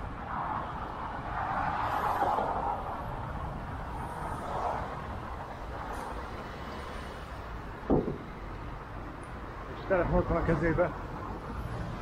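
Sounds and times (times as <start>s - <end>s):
city traffic rushing: 0.0s - 12.0s.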